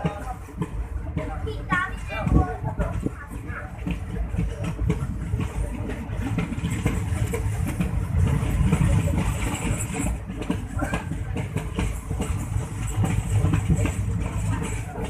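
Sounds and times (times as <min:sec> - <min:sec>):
coach clattering and rattling: 0:00.0 - 0:15.0
train wheels rumbling on track: 0:00.0 - 0:15.0.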